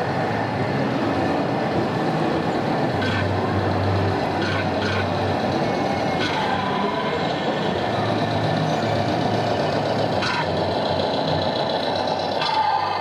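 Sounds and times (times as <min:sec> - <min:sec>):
toy truck diesel engine sound: 0:00.0 - 0:13.0.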